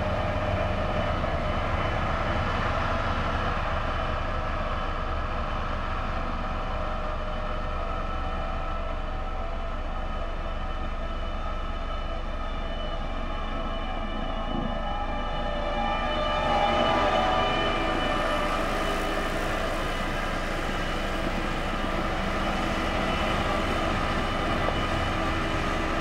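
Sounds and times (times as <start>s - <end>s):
road roller diesel engine humming: 0.0s - 26.0s.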